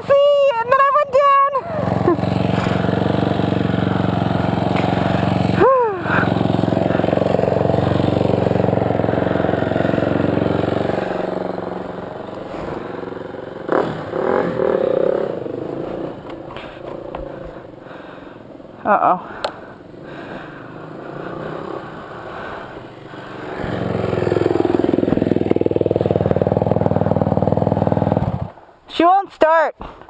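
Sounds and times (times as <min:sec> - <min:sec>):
motorcycle engine running: 0:00.0 - 0:28.6.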